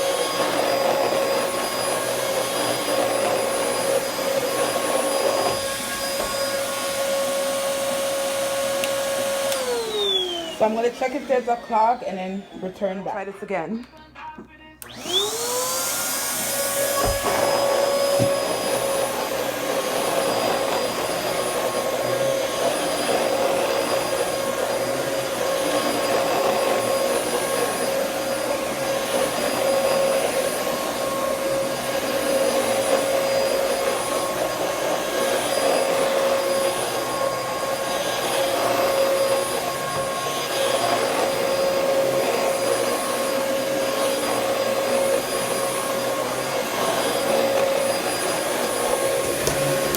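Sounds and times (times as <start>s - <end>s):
vacuum cleaner running: 0.0s - 13.6s, 14.8s - 49.9s.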